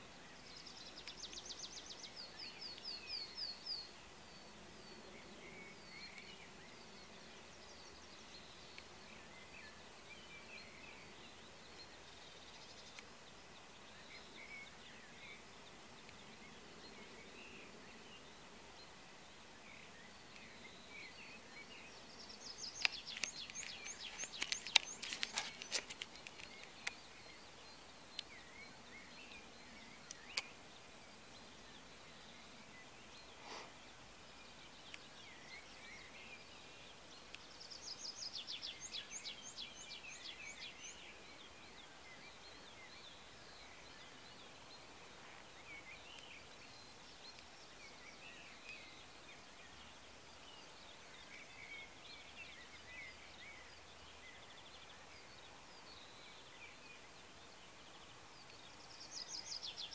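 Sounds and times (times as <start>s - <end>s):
other birds chirping faintly: 0.0s - 59.9s.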